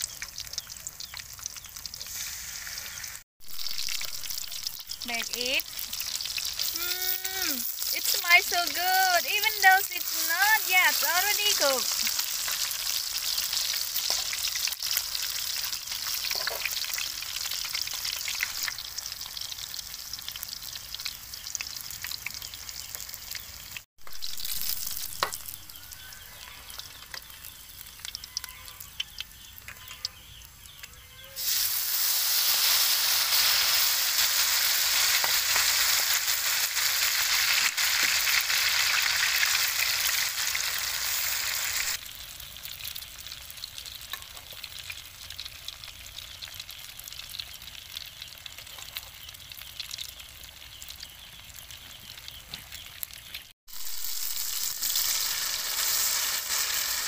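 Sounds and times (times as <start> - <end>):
food frying in hot oil: 0.0 - 57.0.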